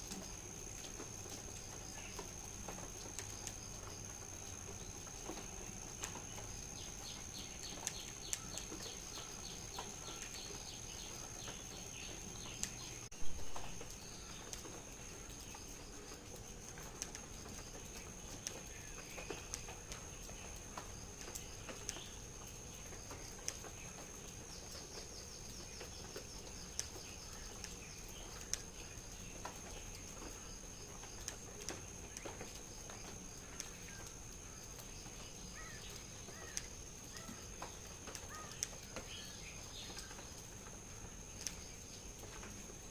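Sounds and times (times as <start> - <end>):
soft bird chirps: 3.3 - 16.1, 17.7 - 42.9.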